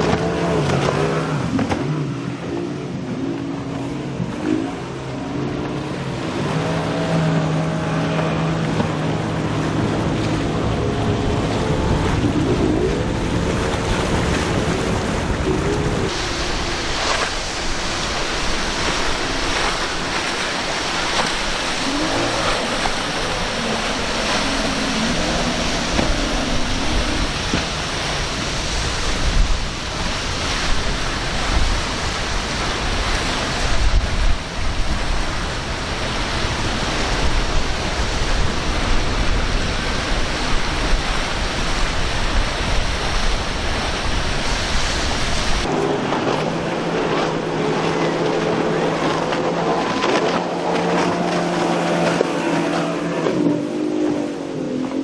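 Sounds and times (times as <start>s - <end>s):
outboard engines droning: 0.0s - 55.0s
waves and surf washing: 0.0s - 55.0s.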